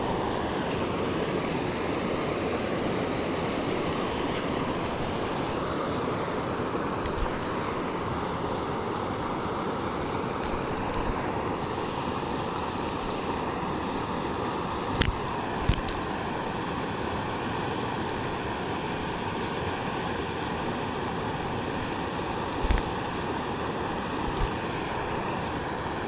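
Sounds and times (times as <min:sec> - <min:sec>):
flowing river water: 0:00.0 - 0:26.0.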